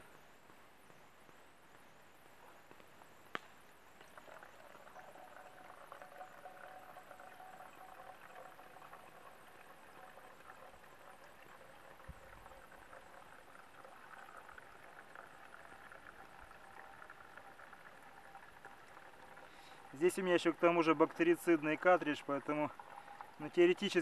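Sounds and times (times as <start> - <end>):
water trickling into plastic bottle: 3.9 - 24.0.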